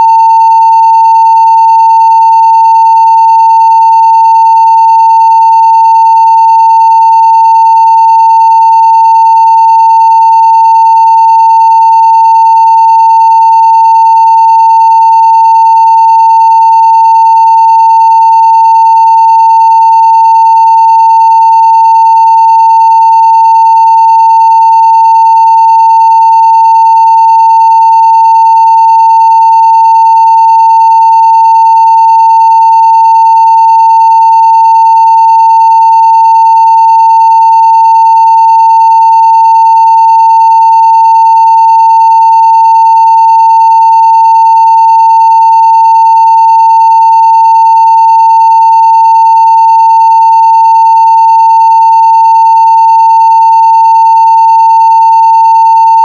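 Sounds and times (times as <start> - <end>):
sine test tone: 0.0 - 56.0.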